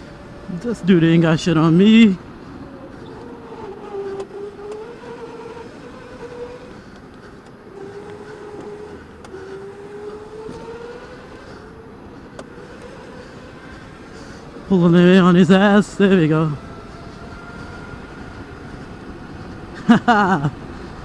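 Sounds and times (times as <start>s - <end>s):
electric go-kart motor whining: 0.0s - 21.0s
rushing tyres and air: 0.0s - 21.0s.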